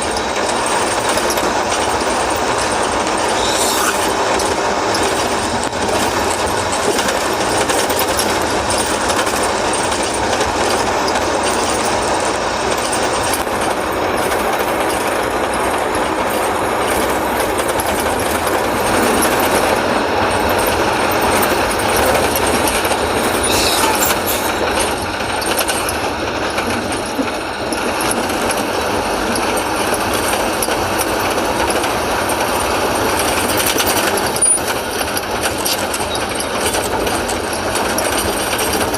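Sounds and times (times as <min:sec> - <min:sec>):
heavy diesel machinery rattling: 0:00.0 - 0:38.9.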